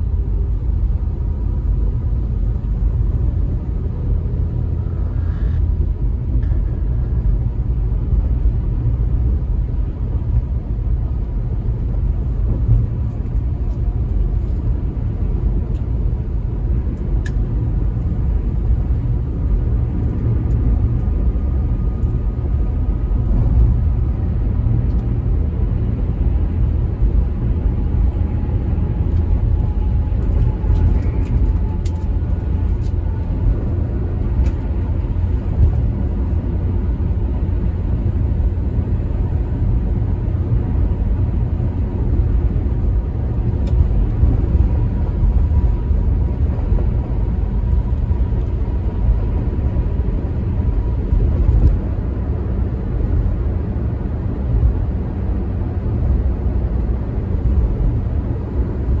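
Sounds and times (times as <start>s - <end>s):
road and engine rumble inside car: 0.0s - 59.0s.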